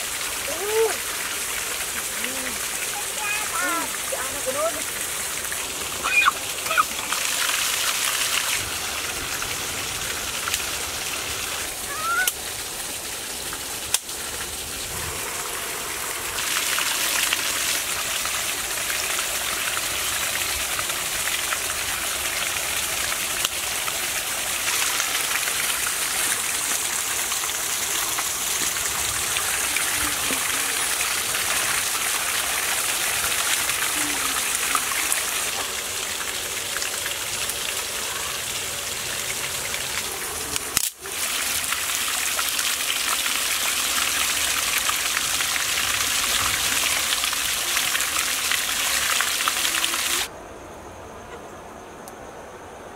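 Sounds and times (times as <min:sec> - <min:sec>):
water pouring over small waterfall: 0:00.0 - 0:50.3.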